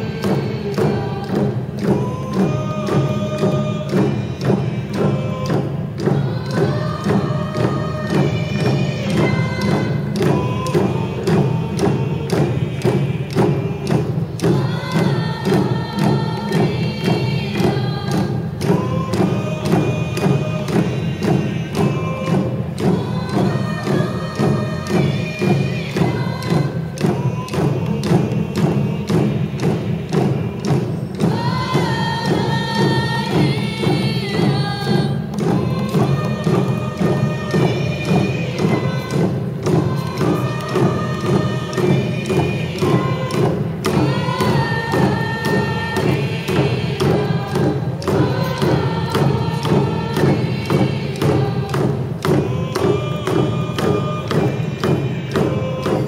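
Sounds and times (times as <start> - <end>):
frame drums beating: 0.0 - 56.0
group singing: 0.0 - 56.0.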